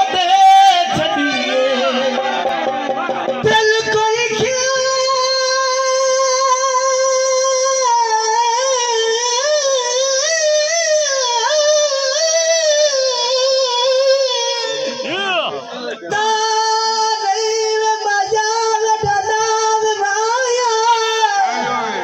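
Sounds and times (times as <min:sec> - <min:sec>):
man singing high held line: 0:00.0 - 0:22.0.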